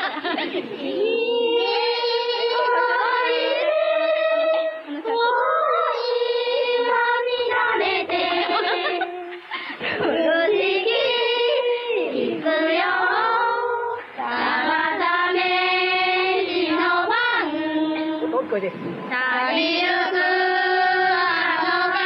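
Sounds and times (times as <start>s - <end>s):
girls singing together: 0.0s - 22.0s.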